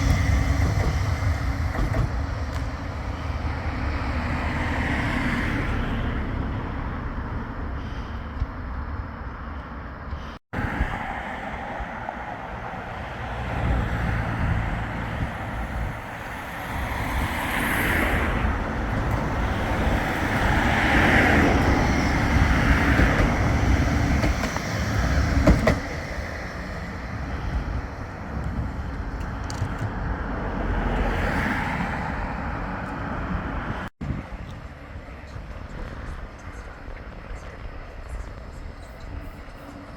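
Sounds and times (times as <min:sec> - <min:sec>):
road traffic: 0:00.0 - 0:39.9
tram passing: 0:00.0 - 0:39.9.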